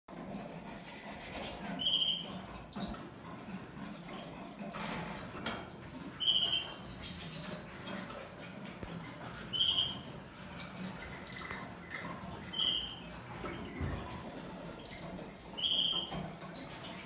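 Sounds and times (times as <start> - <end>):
canary chirping: 0.2 - 17.0.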